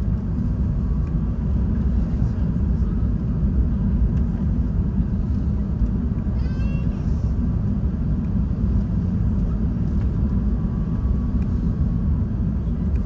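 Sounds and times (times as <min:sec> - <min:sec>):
jet aircraft rumble: 0:00.0 - 0:13.0.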